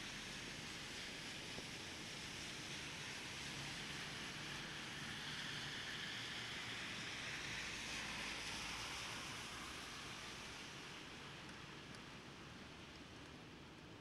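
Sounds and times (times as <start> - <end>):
steady rain hiss: 0.0 - 14.0
vehicle tyres on wet road: 0.0 - 14.0.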